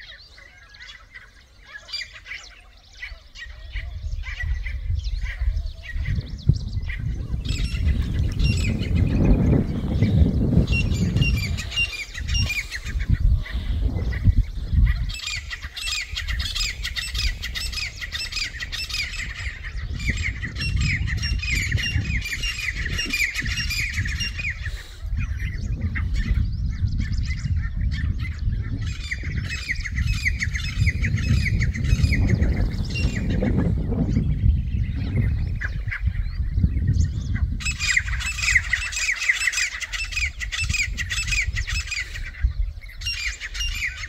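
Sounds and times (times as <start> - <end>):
francolins squawking: 0.0 - 44.0.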